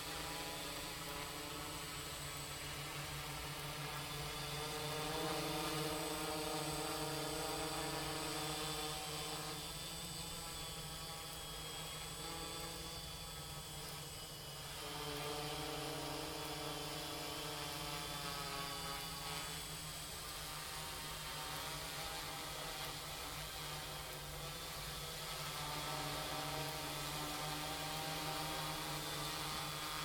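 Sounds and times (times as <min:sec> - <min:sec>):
quadcopter motors buzzing: 0:00.0 - 0:30.0.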